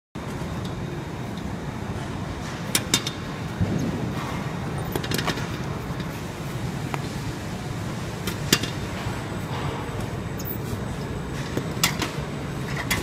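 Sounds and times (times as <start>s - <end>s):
bakery machinery humming: 0.2s - 13.0s.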